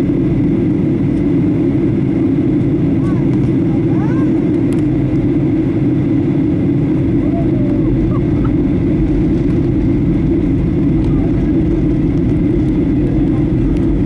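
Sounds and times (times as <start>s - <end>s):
jet engine low rumble: 0.0s - 14.0s
rushing airflow: 0.0s - 14.0s.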